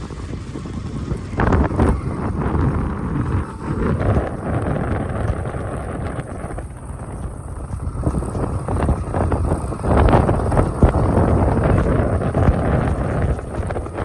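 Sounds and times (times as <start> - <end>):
low vehicle rumble: 0.0 - 14.0
wind buffeting microphone: 0.0 - 14.0.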